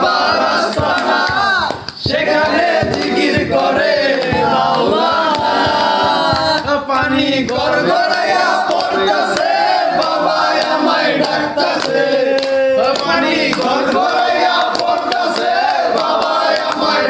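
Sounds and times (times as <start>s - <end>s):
group of men singing: 0.0s - 17.0s
hand claps: 0.0s - 17.0s.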